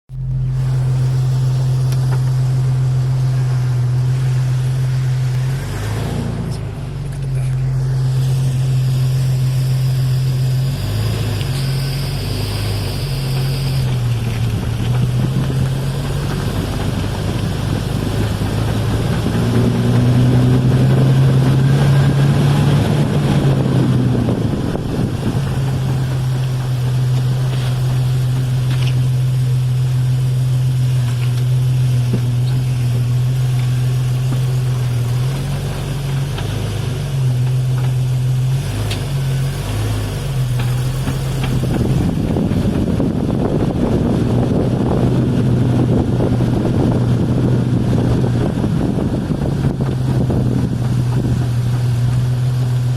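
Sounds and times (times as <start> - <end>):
vehicle low drone: 0.0 - 52.9
drivetrain clunking: 0.1 - 52.9.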